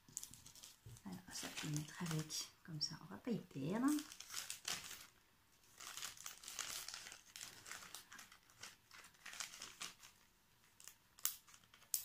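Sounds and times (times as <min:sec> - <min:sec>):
plastic bags crinkling: 0:00.0 - 0:02.5, 0:03.6 - 0:12.0.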